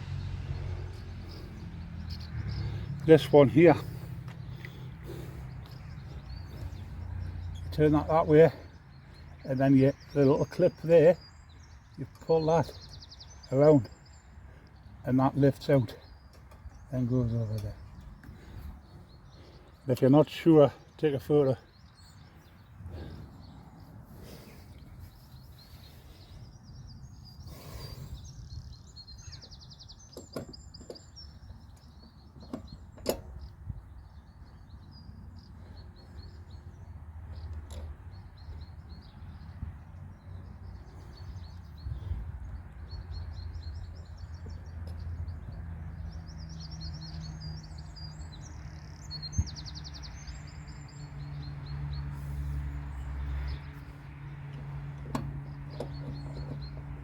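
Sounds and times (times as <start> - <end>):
small birds singing: 0.0 - 57.0.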